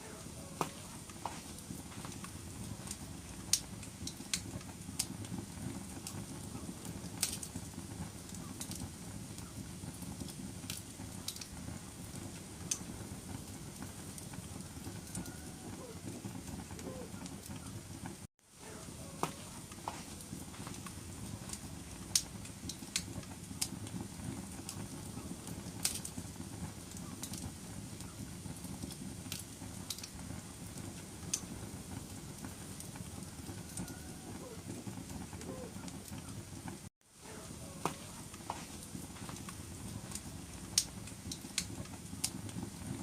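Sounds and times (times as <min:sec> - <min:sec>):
fire crackling and popping: 0:00.0 - 0:43.0
fire flames rumbling: 0:00.0 - 0:43.0.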